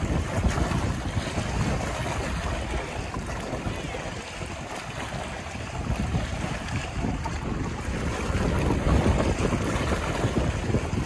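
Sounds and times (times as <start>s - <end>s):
waves lapping against rocks: 0.0s - 11.0s
wind buffeting microphone: 0.0s - 11.0s.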